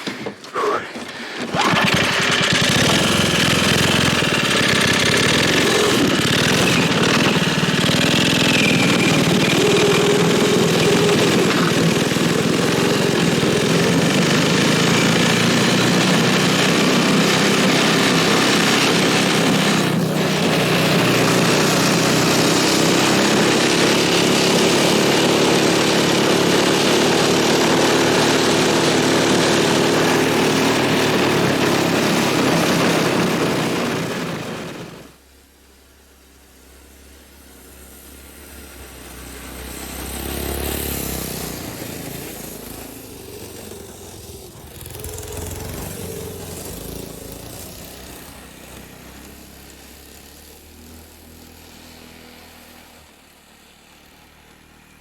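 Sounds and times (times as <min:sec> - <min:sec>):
small engine running loudly: 0:01.4 - 0:35.2, 0:36.5 - 0:55.0.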